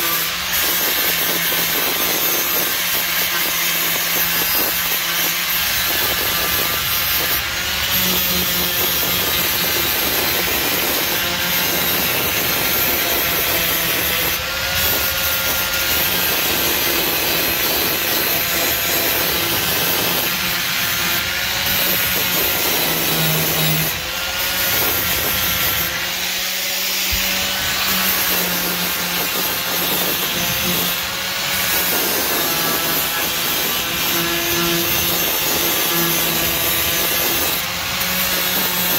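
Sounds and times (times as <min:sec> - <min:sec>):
angle grinder grinding metal: 0:00.0 - 0:38.9.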